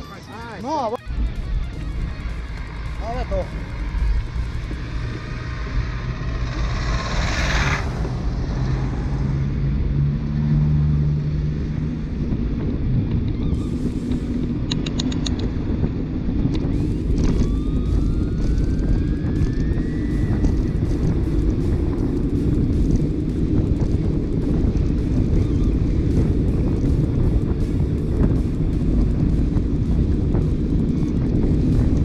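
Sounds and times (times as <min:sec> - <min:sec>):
rising whine: 0:00.0 - 0:32.0
road traffic rumble: 0:00.0 - 0:32.0
vehicle engine humming: 0:00.0 - 0:32.0.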